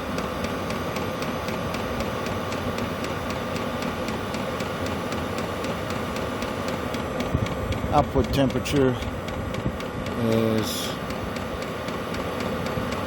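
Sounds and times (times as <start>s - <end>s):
faint fuel pump ticking: 0.0s - 13.0s
heater fan and burner whirring: 0.0s - 13.0s.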